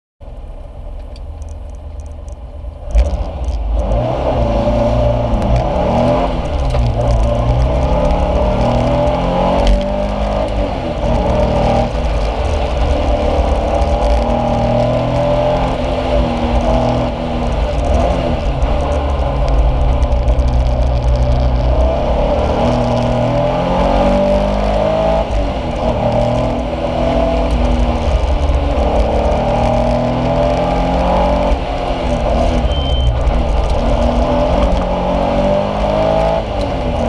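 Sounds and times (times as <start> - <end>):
car engine accelerating: 0.2 - 37.0.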